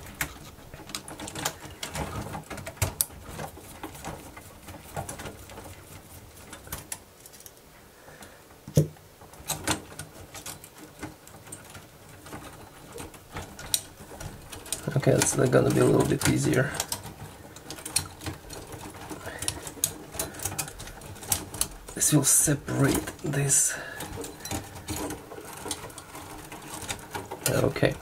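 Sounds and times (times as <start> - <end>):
small clicks and knocks of parts: 0.0 - 28.0.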